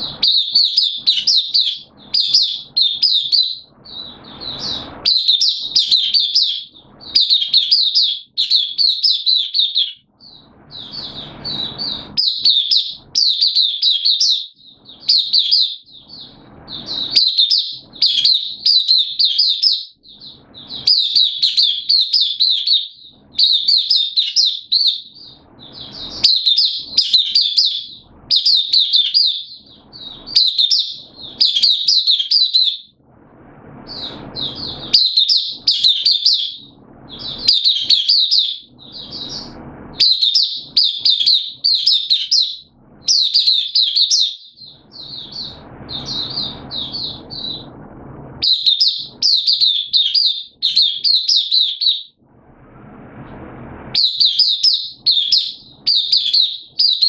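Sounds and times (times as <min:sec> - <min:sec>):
bird twittering song: 0:00.0 - 0:33.0, 0:33.7 - 0:47.8, 0:48.4 - 0:52.2, 0:53.9 - 0:57.0.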